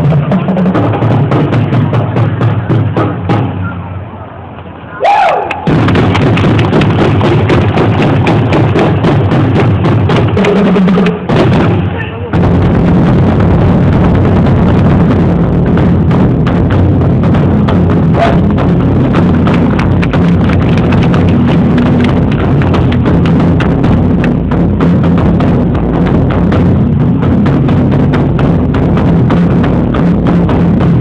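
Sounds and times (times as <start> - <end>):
large drums playing: 0.0 - 3.8, 5.6 - 31.0
low rumble: 5.6 - 31.0.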